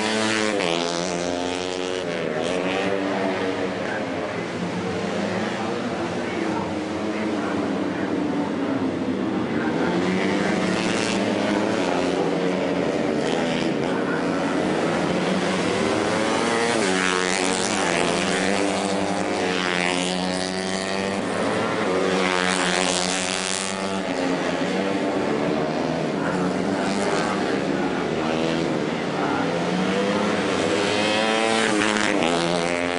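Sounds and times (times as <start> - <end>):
racing motorcycles revving and passing: 0.0 - 32.9.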